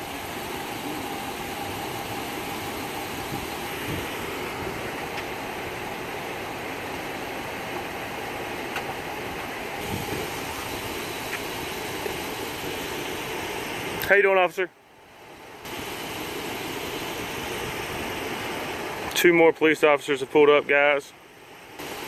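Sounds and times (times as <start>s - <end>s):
car engines idling: 0.0s - 22.0s
outdoor background noise: 0.0s - 22.0s.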